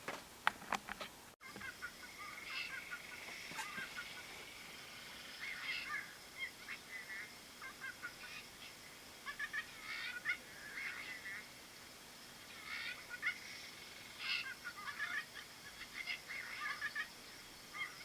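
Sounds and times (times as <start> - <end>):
faint bird chirps: 1.4 - 11.7, 12.3 - 18.0
steady faint high tone: 1.4 - 18.0.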